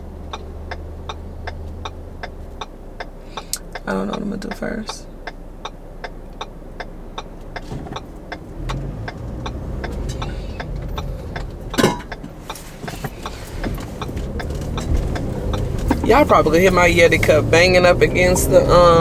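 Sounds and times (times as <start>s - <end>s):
car engine and road rumble: 0.0s - 19.0s
even ticking: 0.0s - 19.0s.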